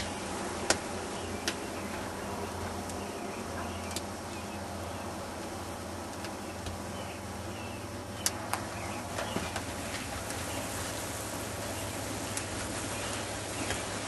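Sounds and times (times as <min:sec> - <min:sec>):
sap boiling with bubbling hiss: 0:00.0 - 0:14.0.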